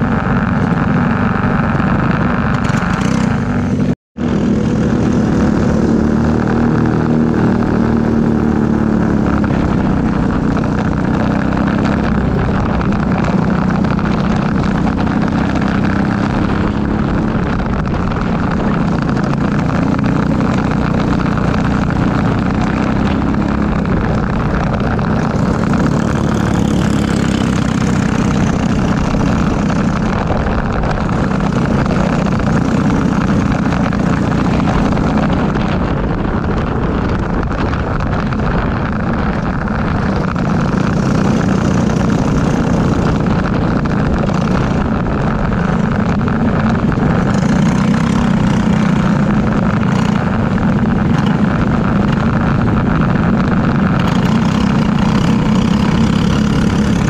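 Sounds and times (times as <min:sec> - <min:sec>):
kart engine running: 0:00.0 - 0:57.0.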